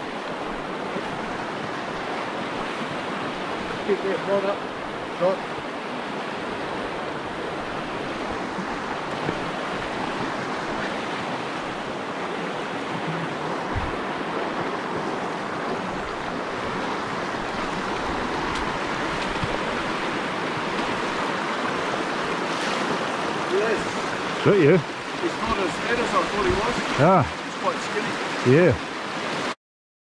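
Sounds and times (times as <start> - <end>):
stream rushing over rocks: 0.0 - 29.6.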